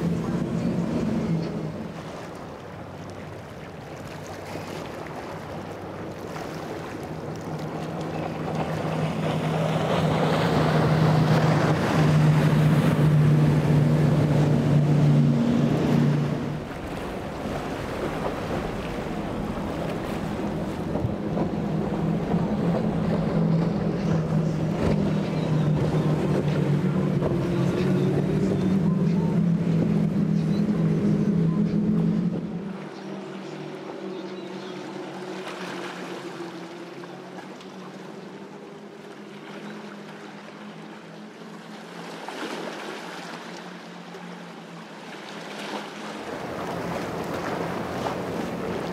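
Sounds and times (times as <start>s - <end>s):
outboard motors droning: 0.0s - 48.9s
rushing water and hull spray: 0.0s - 48.9s.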